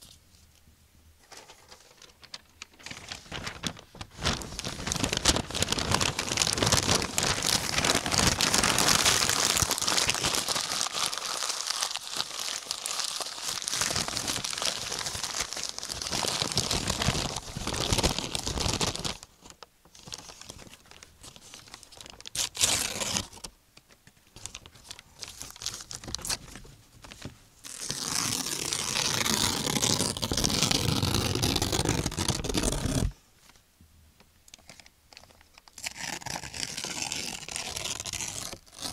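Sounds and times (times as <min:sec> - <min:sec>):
paper crumpling and tearing: 0:01.3 - 0:23.5, 0:24.4 - 0:33.2, 0:34.6 - 0:38.9.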